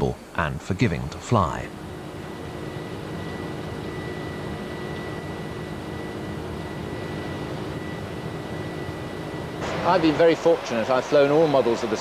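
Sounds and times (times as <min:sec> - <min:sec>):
high jet whine: 0:00.0 - 0:12.0
jet airliner roar: 0:01.1 - 0:12.0.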